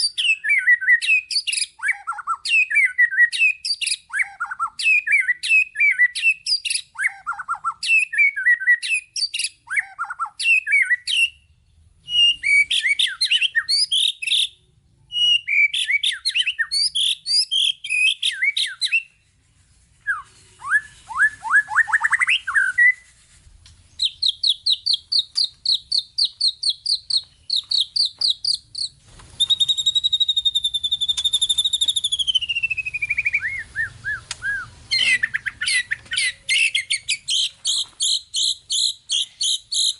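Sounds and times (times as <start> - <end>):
songbird singing varied phrases: 0.0 - 19.1, 23.9 - 39.9.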